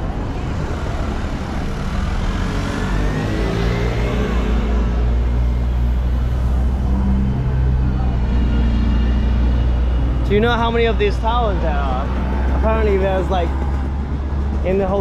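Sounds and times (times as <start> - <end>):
street traffic noise: 0.0 - 15.0
vehicle engine humming: 0.0 - 15.0.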